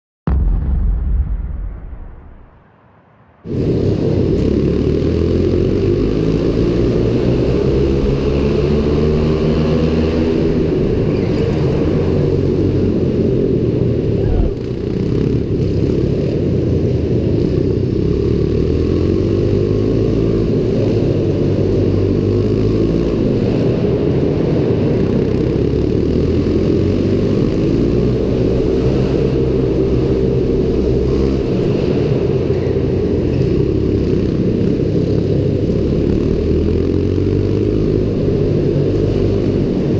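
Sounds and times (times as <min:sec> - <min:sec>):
small motorcycle engine revving: 0:03.5 - 0:39.9.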